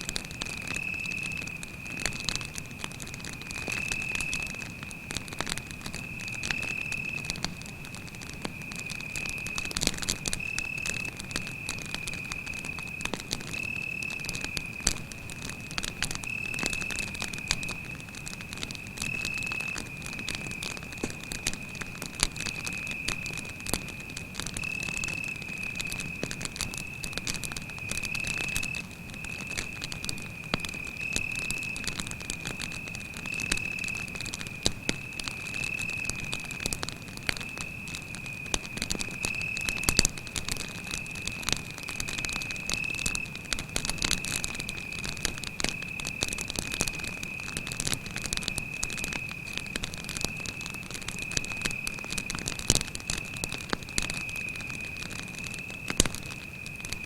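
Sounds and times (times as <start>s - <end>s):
campfire crackling: 0.0s - 57.0s
cricket trilling: 0.2s - 57.0s.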